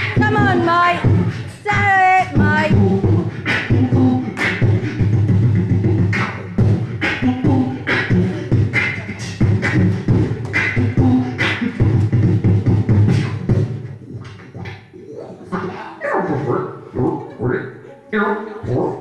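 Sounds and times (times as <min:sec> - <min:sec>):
beatboxing into microphone: 0:00.0 - 0:19.0.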